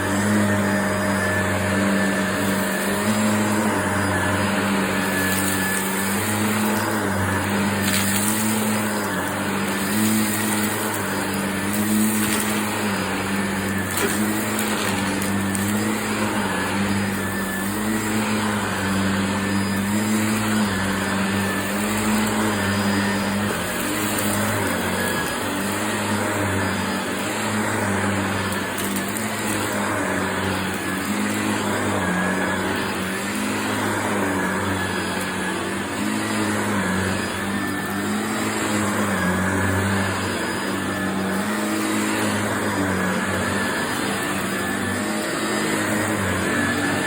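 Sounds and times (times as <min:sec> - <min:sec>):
vacuum cleaner running on carpet: 0:00.0 - 0:47.0.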